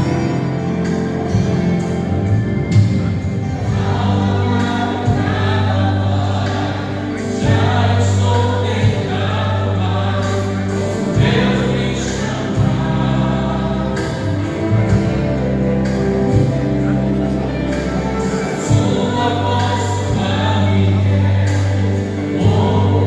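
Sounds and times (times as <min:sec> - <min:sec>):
choir singing a gospel hymn: 0:00.0 - 0:23.0
instrumental accompaniment with low bass: 0:00.0 - 0:23.0.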